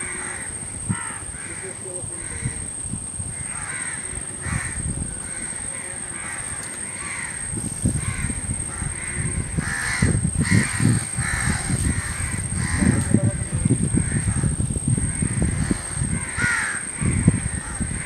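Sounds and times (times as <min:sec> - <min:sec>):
crows cawing: 0:00.0 - 0:18.0.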